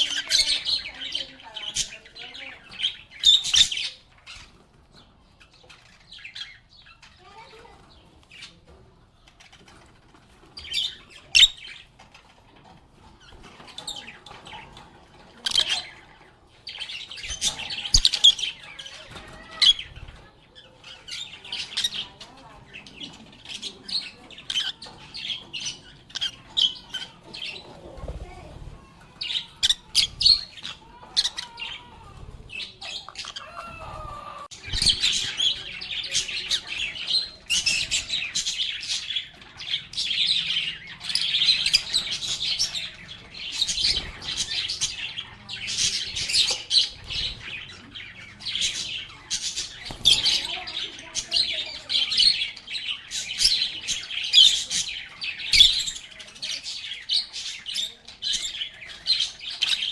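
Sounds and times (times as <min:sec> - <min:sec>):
lovebirds chirping and chattering: 0:00.0 - 0:59.9.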